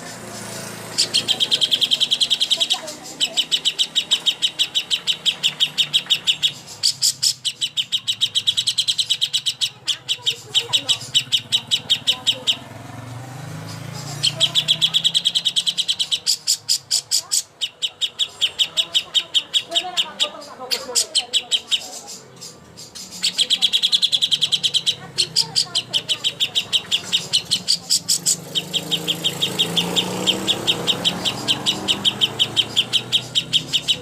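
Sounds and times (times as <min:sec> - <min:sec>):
songbird chattering high chirps: 0:00.0 - 0:34.0.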